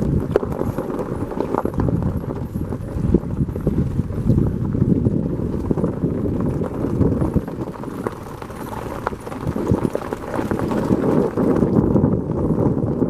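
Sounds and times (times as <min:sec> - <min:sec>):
vehicle rumbling on rough road: 0:00.0 - 0:13.0.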